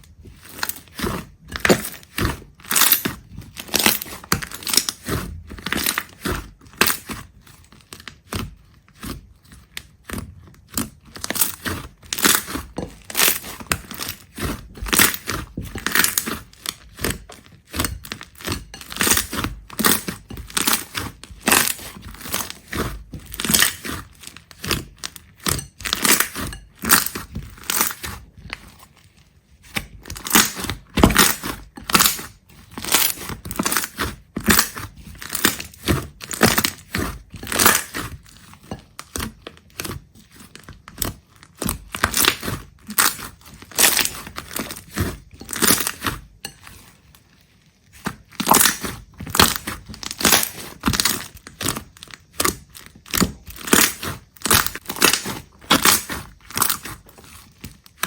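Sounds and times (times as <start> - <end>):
crunching and crackling: 0.0 - 58.0.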